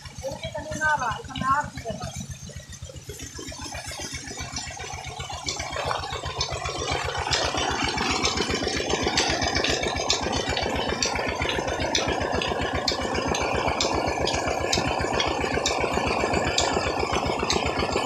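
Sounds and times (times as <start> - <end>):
pump engine running: 0.0 - 18.0
water gushing and splashing: 0.0 - 18.0.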